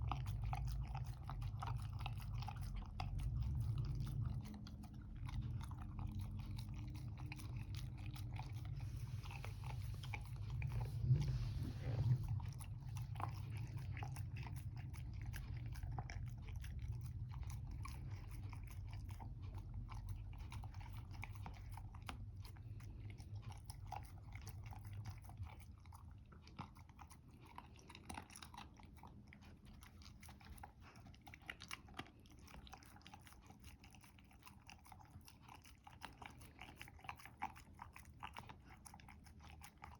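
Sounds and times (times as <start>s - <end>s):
dog chewing and crunching food: 0.0s - 39.9s
low steady hum: 0.0s - 39.9s.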